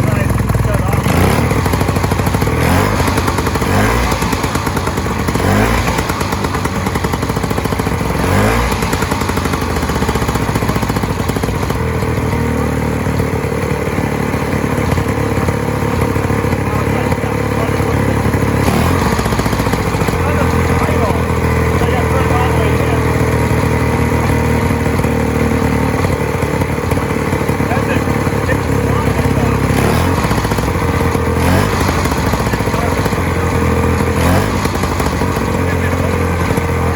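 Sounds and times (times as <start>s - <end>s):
two-stroke snowmobile engine revving: 0.0s - 36.9s.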